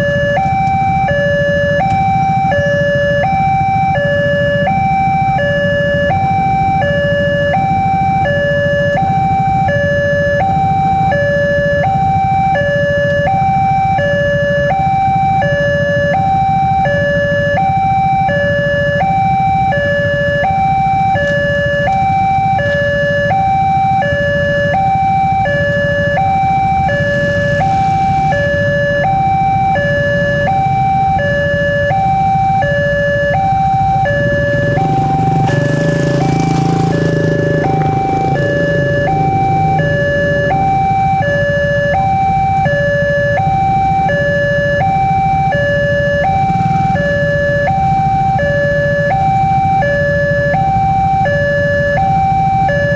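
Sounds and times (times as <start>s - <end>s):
motorcycle engines idling: 0.0s - 52.9s
two-tone level crossing alarm: 0.0s - 52.9s.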